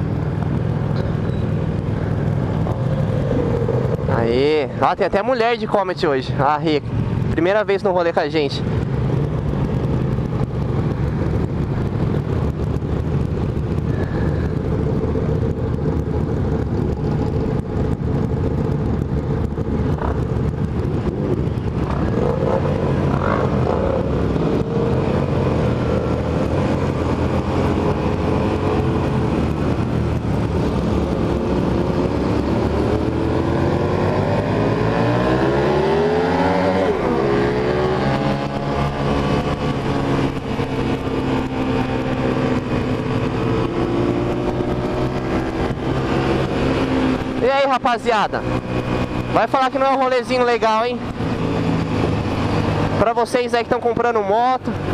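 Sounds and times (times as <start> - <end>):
motorcycle engine running: 0.0 - 54.9
wind rushing over microphone: 0.0 - 54.9.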